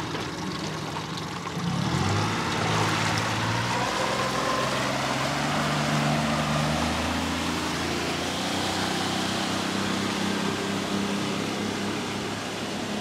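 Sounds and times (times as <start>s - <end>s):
outboard motor running: 0.0s - 13.0s
rush of boat wake: 0.0s - 13.0s.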